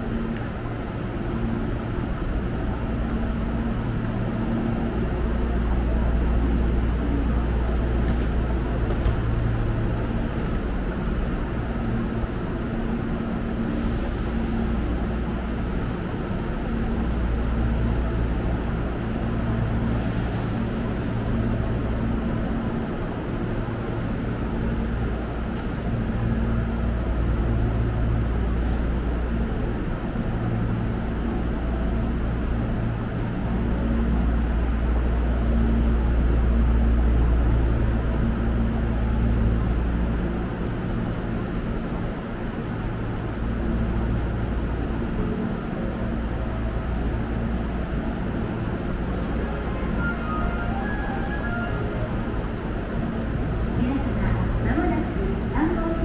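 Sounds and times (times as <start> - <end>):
stopped electric train humming: 0.0 - 56.0.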